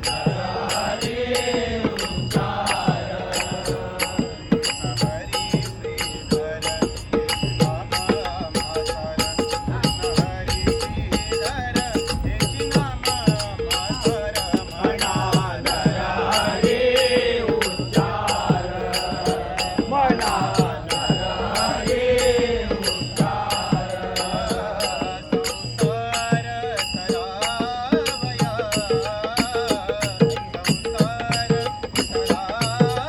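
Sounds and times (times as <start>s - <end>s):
hand cymbals struck: 0.0s - 33.0s.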